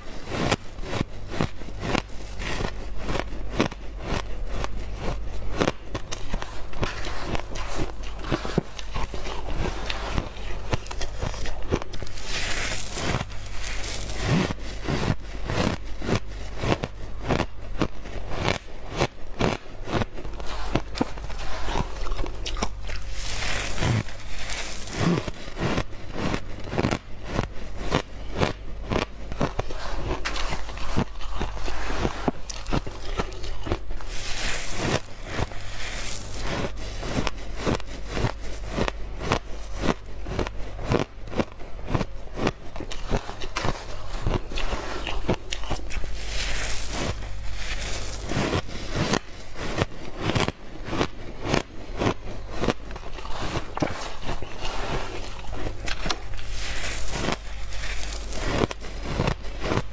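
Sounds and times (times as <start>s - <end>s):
low hum: 0.0s - 59.9s
shaved ice crunching: 0.0s - 59.9s.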